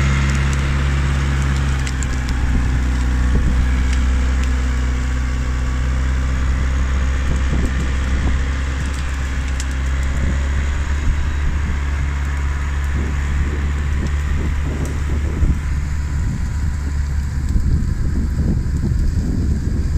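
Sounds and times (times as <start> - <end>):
diesel engine running: 0.0 - 19.9
wind buffeting microphone: 0.0 - 19.9.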